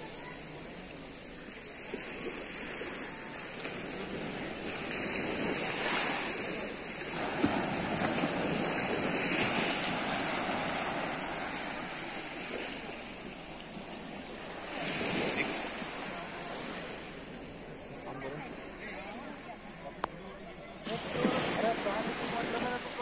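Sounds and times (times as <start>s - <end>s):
waves breaking on a beach: 0.0s - 23.0s.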